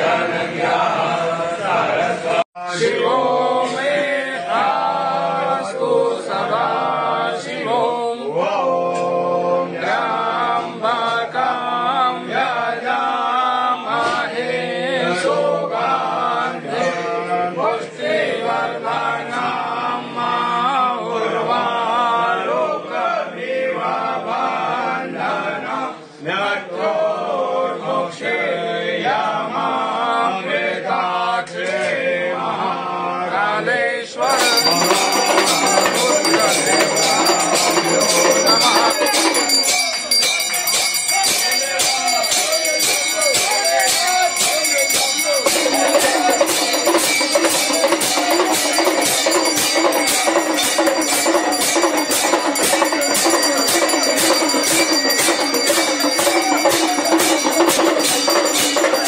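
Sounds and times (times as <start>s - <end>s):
men singing a devotional chant: 0.0s - 59.0s.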